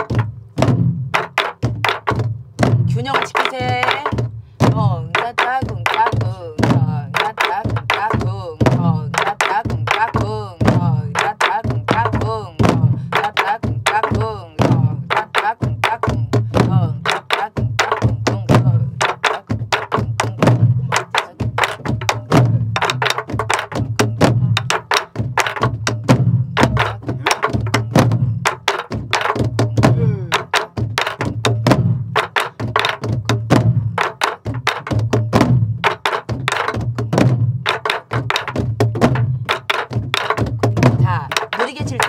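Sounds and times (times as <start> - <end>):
booming drum thumps: 0.0 - 42.0.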